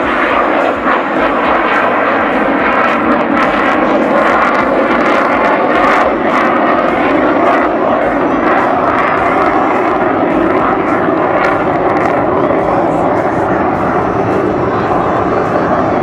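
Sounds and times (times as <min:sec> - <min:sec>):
fighter jet engine roar: 0:00.0 - 0:16.0.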